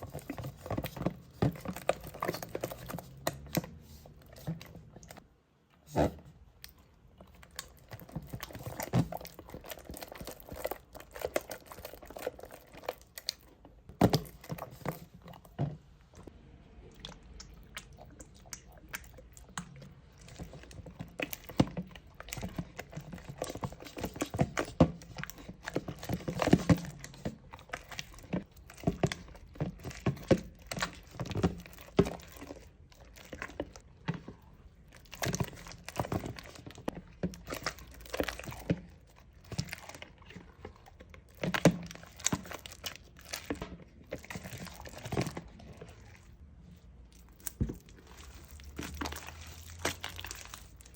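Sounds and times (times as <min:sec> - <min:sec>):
slime squished by hand: 0:05.8 - 0:50.9.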